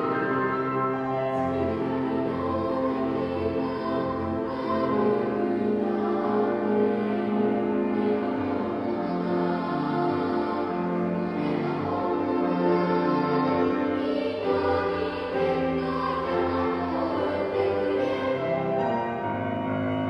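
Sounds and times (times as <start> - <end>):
choir singing with instruments: 0.0 - 20.0.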